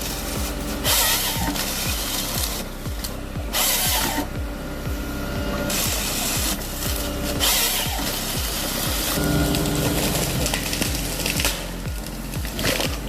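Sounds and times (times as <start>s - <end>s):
music with kick-drum beat: 0.0s - 13.0s.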